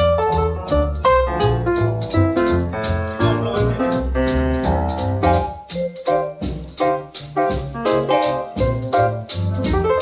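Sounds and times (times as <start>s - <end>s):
piano-led background music: 0.0s - 10.0s.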